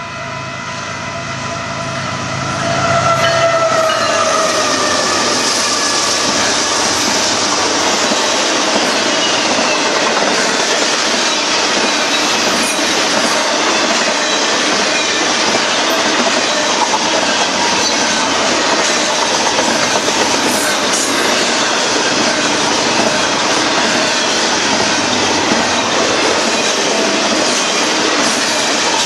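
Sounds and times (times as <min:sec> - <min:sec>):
train wheels rumbling on rails: 0:00.0 - 0:29.0
clickety-clack over rail joints: 0:03.1 - 0:29.0.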